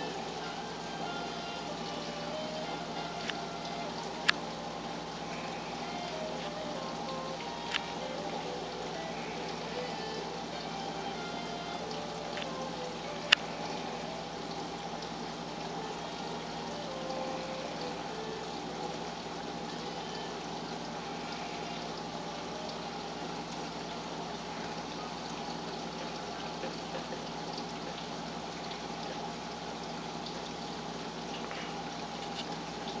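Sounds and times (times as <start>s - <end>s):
faint steady hum: 0.0s - 33.0s
water trickling into aquarium: 0.0s - 33.0s.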